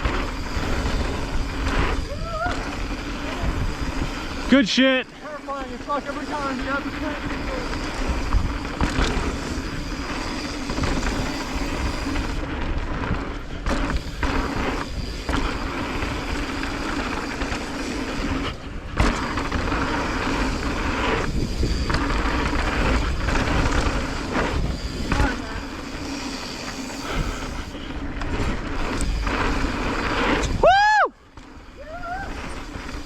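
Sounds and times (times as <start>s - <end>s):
bike rattling: 0.0s - 33.0s
tyres rolling on dirt: 0.0s - 33.0s
wind rushing over microphone: 0.0s - 33.0s.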